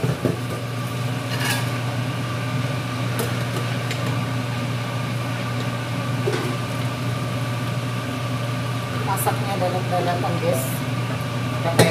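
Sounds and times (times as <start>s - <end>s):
kitchen machinery hum: 0.0s - 11.9s.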